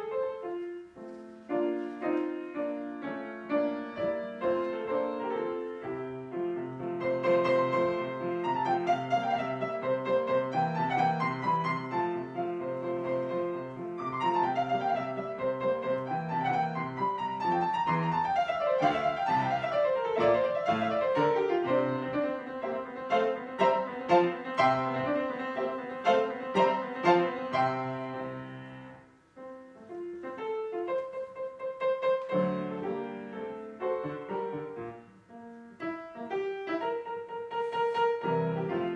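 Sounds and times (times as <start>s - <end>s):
piano runs and arpeggios: 1.5s - 28.9s, 30.3s - 38.9s.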